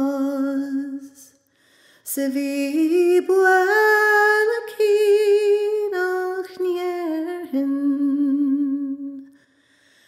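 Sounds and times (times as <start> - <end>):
woman singing unaccompanied: 0.0 - 1.4, 2.1 - 9.3.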